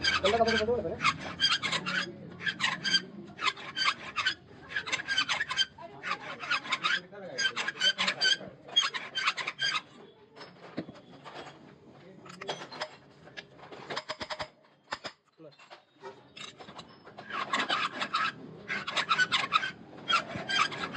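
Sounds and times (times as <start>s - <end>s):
metal-on-metal scraping: 0.0s - 20.9s.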